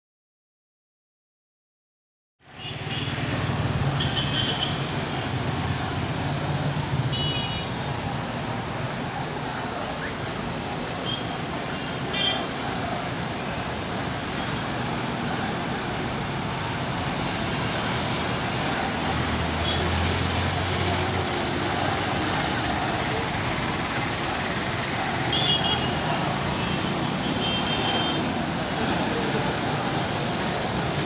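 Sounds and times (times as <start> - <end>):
road traffic passing: 2.4 - 31.0.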